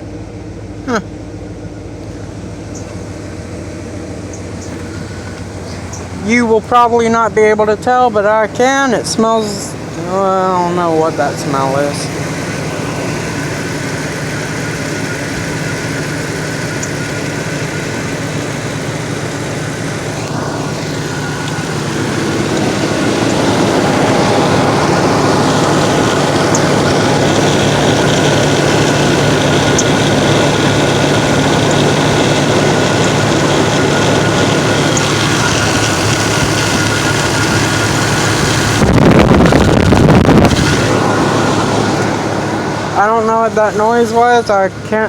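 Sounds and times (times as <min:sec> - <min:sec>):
pickup truck engine revving: 0:00.0 - 0:45.0.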